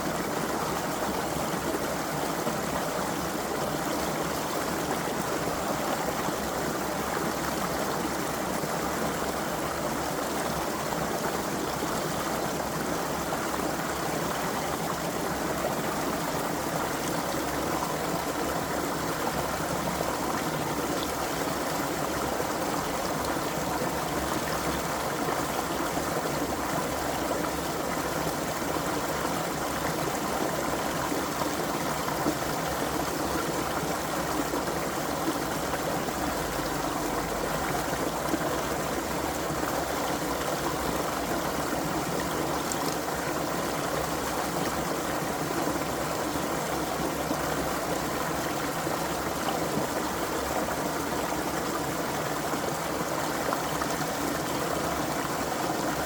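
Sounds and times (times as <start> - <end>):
creek water flowing over rocks: 0.0 - 56.0.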